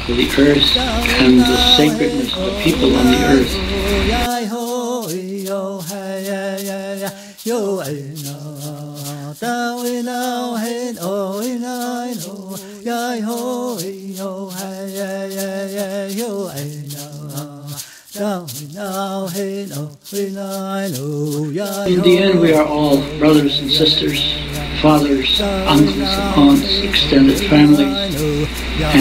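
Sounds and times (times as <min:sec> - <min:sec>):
person chanting in held notes: 0:00.0 - 0:29.0
rattle shaken rhythmically: 0:00.0 - 0:29.0.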